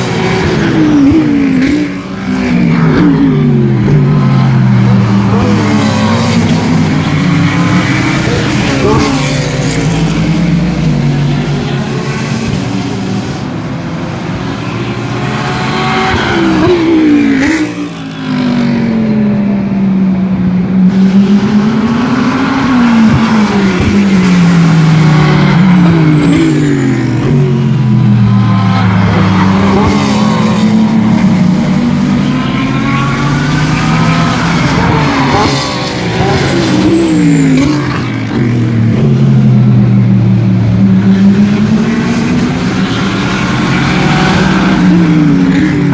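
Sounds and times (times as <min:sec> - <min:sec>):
race cars revving past: 0:00.0 - 0:45.9.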